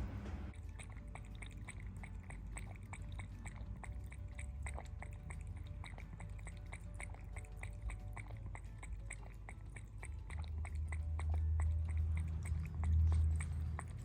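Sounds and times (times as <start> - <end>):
cat chewing with crunching clicks: 0.5 - 14.0.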